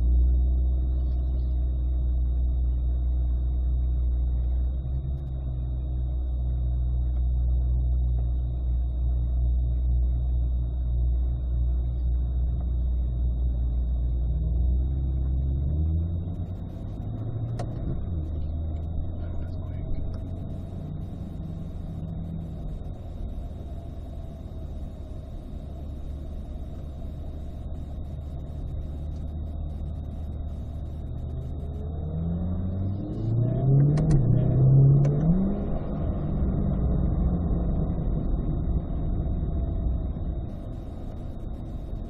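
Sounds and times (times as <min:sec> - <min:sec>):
car engine at low revs: 0:00.0 - 0:42.0.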